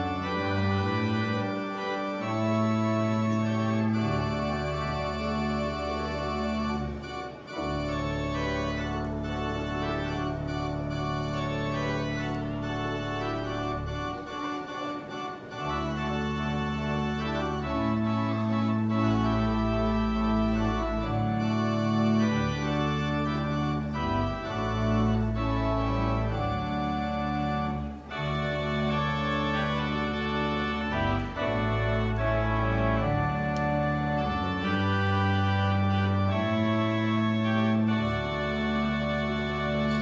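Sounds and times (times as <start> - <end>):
church organ playing chords: 0.0 - 40.0.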